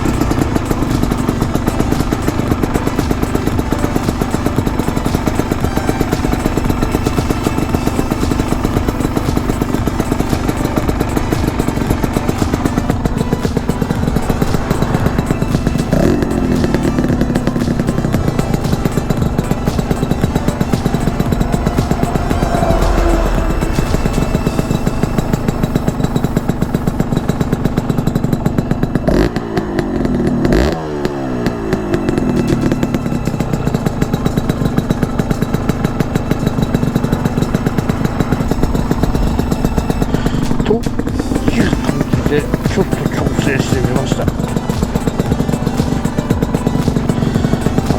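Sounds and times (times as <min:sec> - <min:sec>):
two-stroke engine running: 0:00.0 - 0:47.9.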